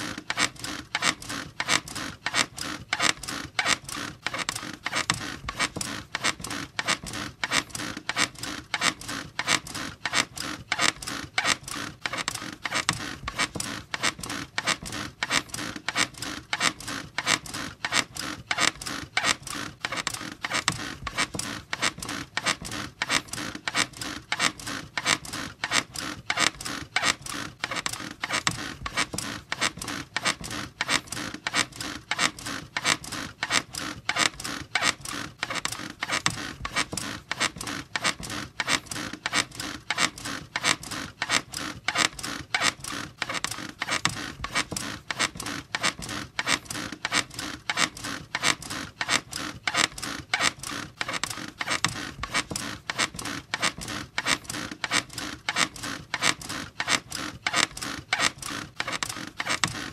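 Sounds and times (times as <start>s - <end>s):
bed frame and springs creaking: 0.0s - 59.9s.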